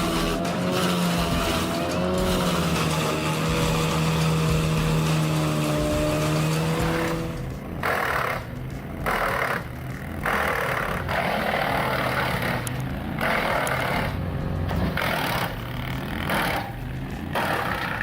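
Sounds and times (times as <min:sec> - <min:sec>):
wood chipper engine hum: 0:00.0 - 0:18.0
wood grinding bursts: 0:00.0 - 0:18.0.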